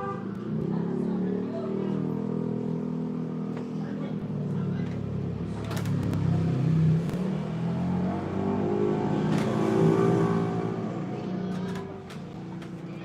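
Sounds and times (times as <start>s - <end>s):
engine revving: 0.3s - 12.7s.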